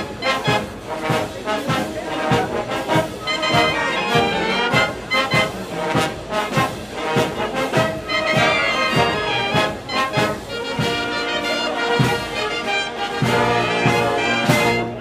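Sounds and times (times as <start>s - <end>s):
brass band playing dance music: 0.0s - 15.0s.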